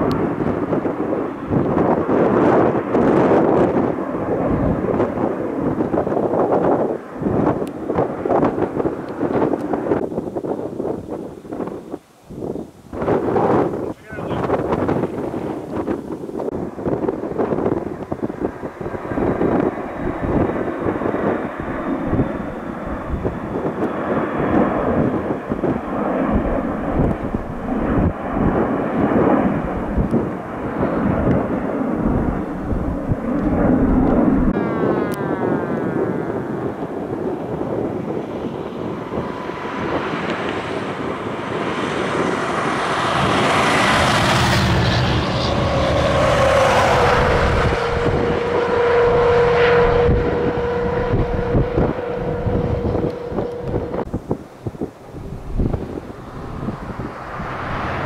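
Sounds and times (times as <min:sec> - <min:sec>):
aircraft engine passing: 0:00.0 - 0:58.0
wind rumble on microphone: 0:00.0 - 0:58.0.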